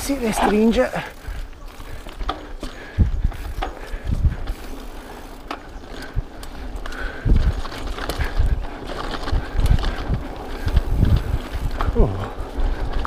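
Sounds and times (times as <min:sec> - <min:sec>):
bicycle freewheel ratcheting: 0:00.0 - 0:13.0
bike rattling over bumps: 0:00.0 - 0:13.0.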